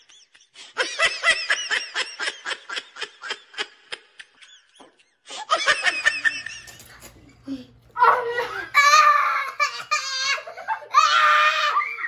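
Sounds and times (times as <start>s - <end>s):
children laughing: 0.0s - 12.0s.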